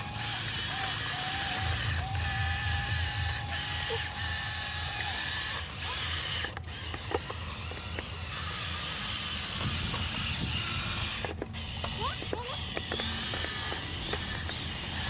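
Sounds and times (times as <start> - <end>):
toy truck motor whirring: 0.0 - 15.0.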